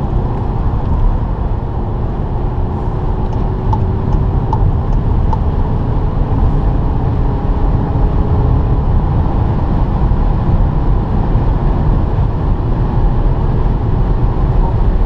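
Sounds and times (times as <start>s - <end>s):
car engine heavy drone: 0.0s - 15.0s
wind and road noise: 0.0s - 15.0s.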